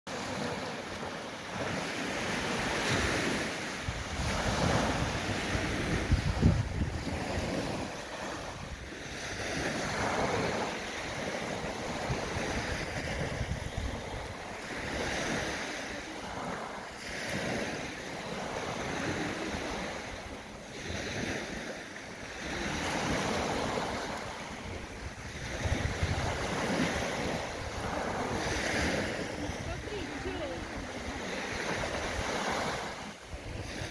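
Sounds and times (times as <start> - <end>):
small waves washing up beach: 0.1 - 33.9
wind rumbling on microphone: 0.3 - 33.9.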